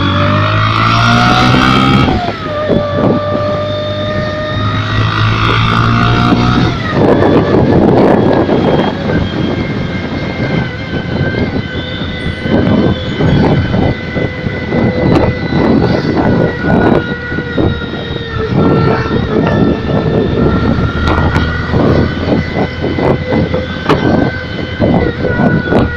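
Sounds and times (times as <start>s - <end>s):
loud motorcycle engine revving: 0.0s - 25.9s.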